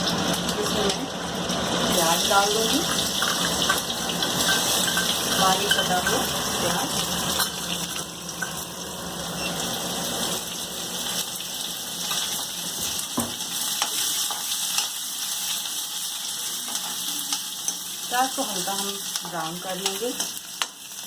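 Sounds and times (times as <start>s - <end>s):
onion sizzling in oil: 0.0s - 21.0s.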